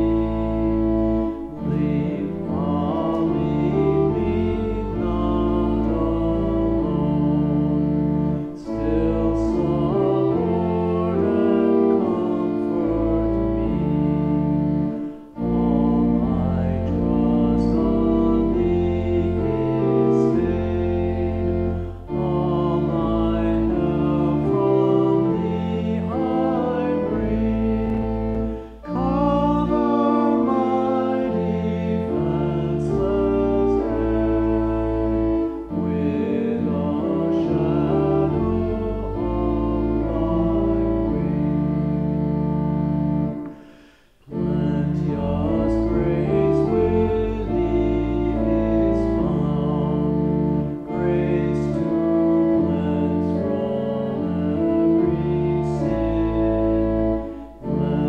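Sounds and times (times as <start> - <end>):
voices singing: 0.0 - 42.0, 43.4 - 58.0
slow meditative music: 0.0 - 58.0.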